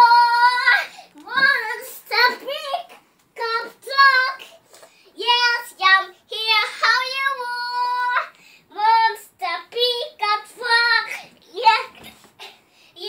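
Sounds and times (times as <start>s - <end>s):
child singing: 0.0s - 4.6s, 5.2s - 12.1s.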